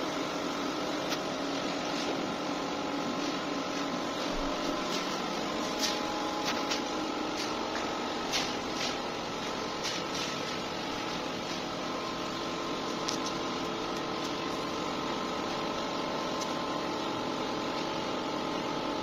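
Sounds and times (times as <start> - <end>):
mechanical hum with faint whine: 0.0 - 19.0.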